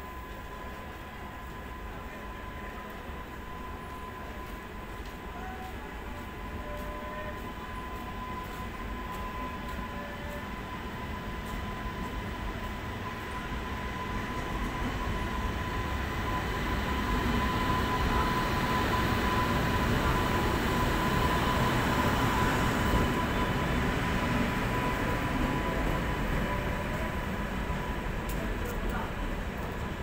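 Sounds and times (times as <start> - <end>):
thin steady whine: 0.0 - 30.0
train passing rumble: 0.0 - 30.0.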